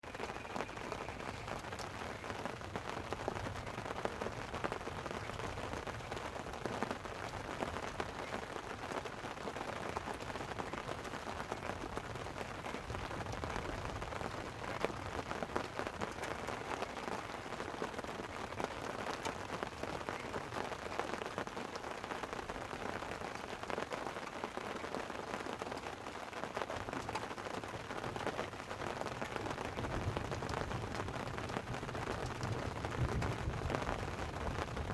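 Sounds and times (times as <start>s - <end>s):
light rain on a tent: 0.0s - 34.9s
sharp raindrop ticks: 0.0s - 34.9s.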